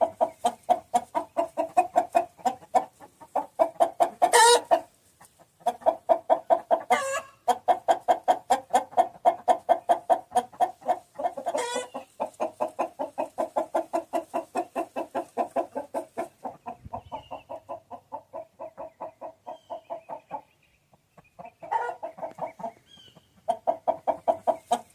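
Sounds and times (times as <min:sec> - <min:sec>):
high chicken calls: 0:00.0 - 0:04.9, 0:05.6 - 0:20.6, 0:21.3 - 0:24.9
chicken clucking: 0:00.0 - 0:24.9.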